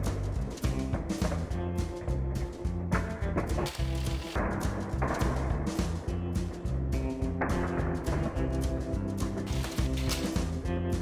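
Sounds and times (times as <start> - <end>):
background music with drums: 0.0 - 11.0
low bass line: 0.0 - 11.0.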